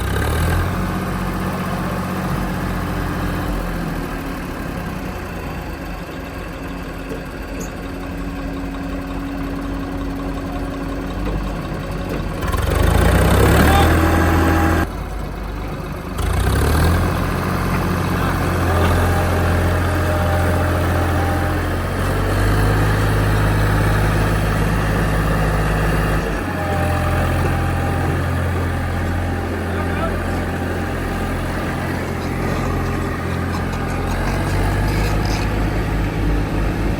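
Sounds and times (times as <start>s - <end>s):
backhoe diesel engine running: 0.0s - 36.9s
tractor engines: 0.0s - 36.9s.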